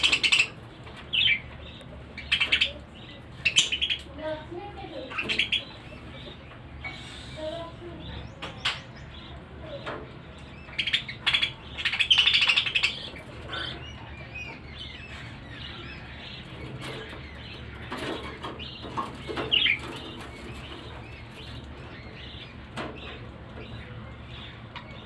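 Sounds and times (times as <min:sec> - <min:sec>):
budgerigars chirping and chattering: 0:00.0 - 0:25.0.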